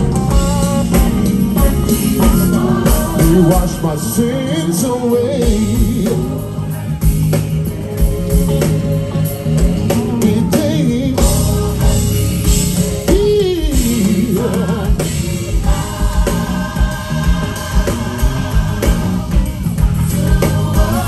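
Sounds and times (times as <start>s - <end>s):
live gospel band: 0.0s - 21.0s.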